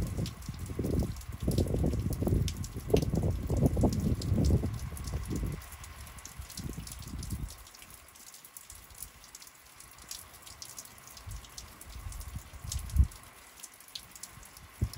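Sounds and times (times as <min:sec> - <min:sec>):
raindrops ticking: 0:00.0 - 0:14.9.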